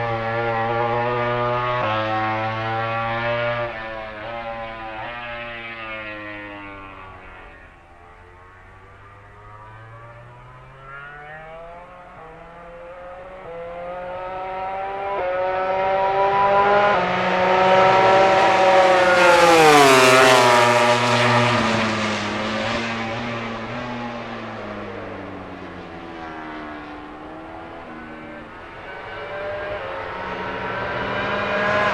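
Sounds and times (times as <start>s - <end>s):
racing motorcycle passing at full throttle: 0.0s - 31.9s.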